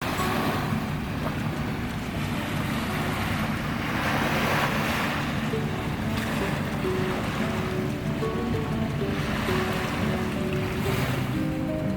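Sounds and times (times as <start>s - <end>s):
boat engine hum: 0.0s - 11.9s
rushing water: 0.0s - 11.9s
wind buffeting microphone: 0.0s - 11.9s.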